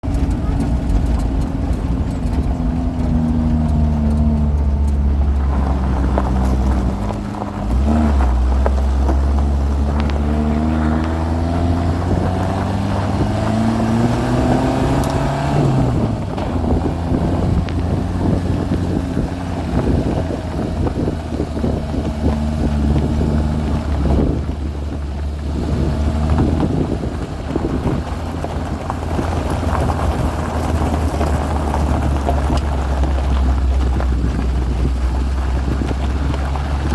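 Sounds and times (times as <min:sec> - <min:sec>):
petrol engine running under load: 0:00.0 - 0:36.9.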